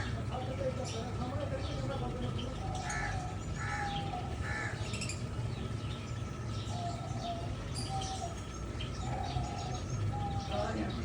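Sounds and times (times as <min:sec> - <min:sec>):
finches calling and chirping: 0:00.0 - 0:11.0.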